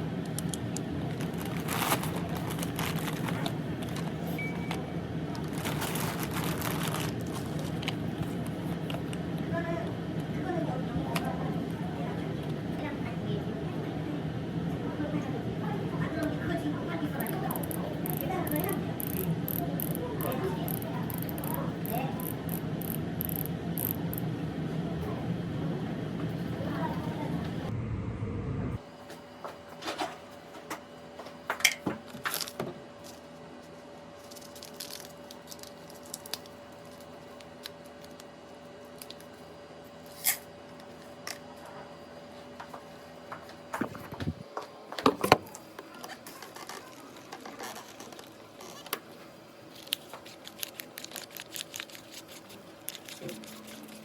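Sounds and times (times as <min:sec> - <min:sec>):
faint hum: 0:00.0 - 0:54.0.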